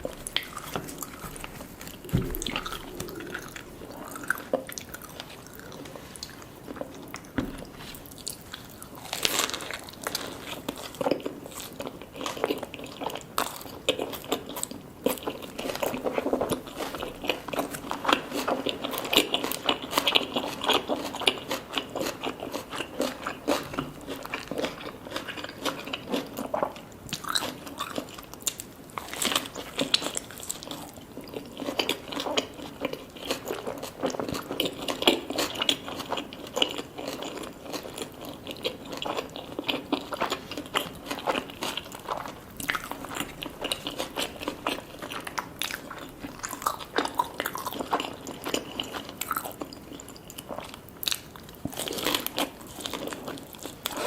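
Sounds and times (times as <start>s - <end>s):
person chewing food crunchily: 0.0s - 54.0s.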